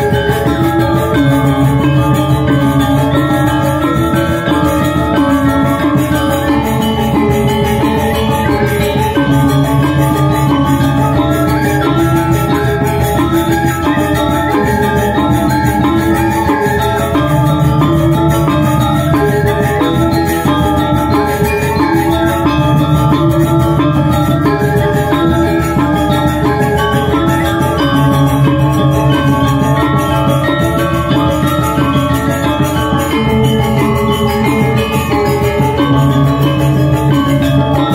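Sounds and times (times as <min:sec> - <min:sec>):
gamelan ensemble playing: 0:00.0 - 0:37.9
metallophones struck with mallets: 0:00.0 - 0:37.9.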